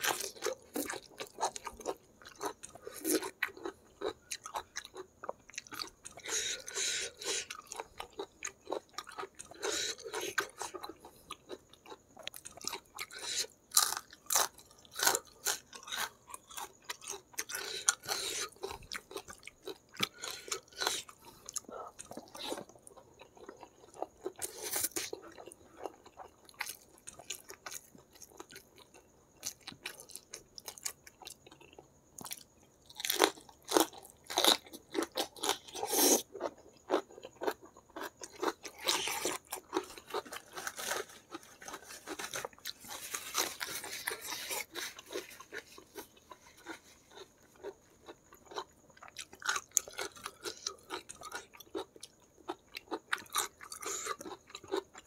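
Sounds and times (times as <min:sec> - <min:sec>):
chewing with wet mouth sounds: 0:00.0 - 0:55.0.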